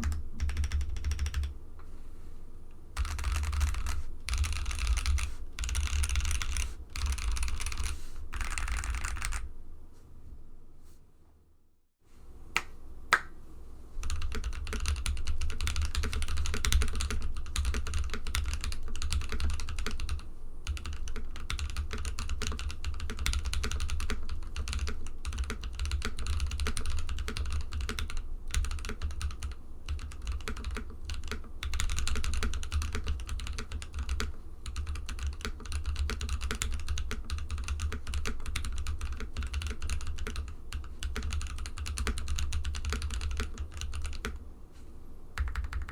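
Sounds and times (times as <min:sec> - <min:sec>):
mechanical keyboard typing: 0:00.0 - 0:01.5, 0:03.0 - 0:09.5, 0:14.0 - 0:44.4, 0:45.4 - 0:45.9.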